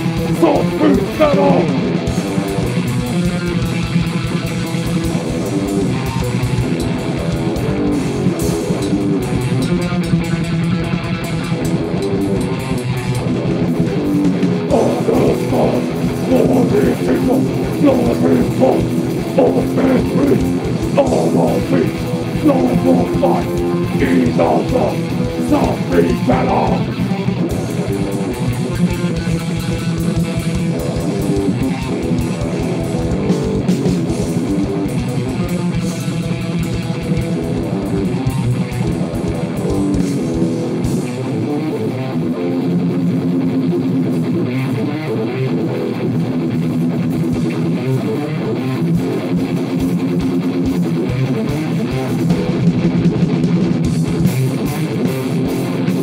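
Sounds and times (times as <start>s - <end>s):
fast drums: 0.0s - 41.1s, 49.3s - 56.0s
distorted electric guitar riffs: 0.0s - 56.0s.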